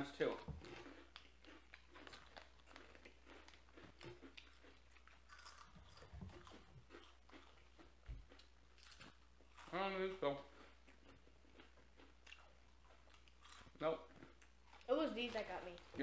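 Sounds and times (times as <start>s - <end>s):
crunching and chewing snacks: 0.0s - 16.0s.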